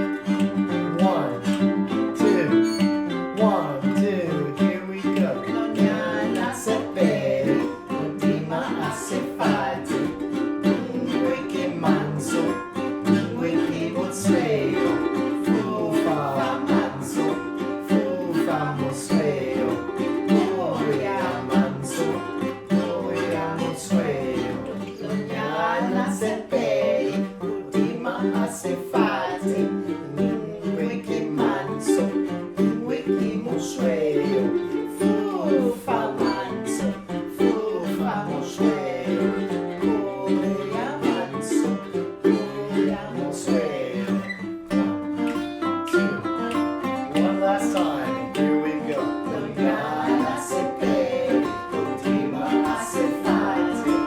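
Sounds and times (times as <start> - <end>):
person singing: 0.0 - 54.0
plucked string instrument: 0.0 - 54.0.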